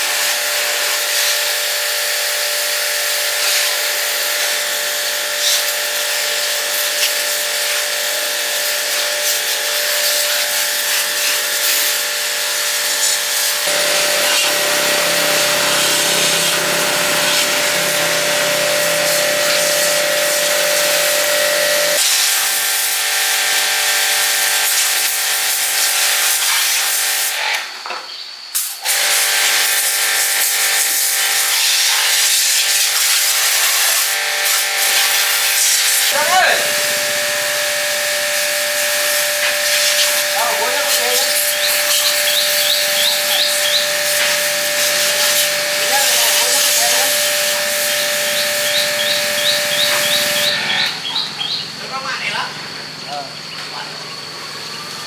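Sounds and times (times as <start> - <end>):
washer motor humming: 0.0 - 27.4, 28.8 - 55.0
water spray hissing: 0.0 - 27.4, 28.6 - 51.2.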